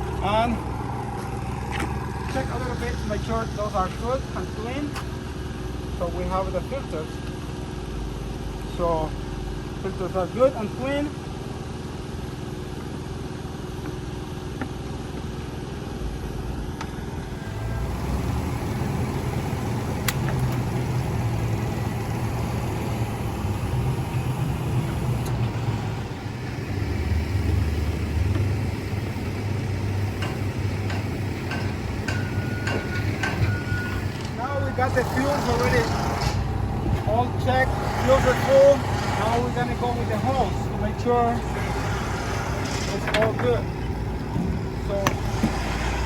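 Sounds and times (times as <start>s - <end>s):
engine idling: 0.0s - 46.0s.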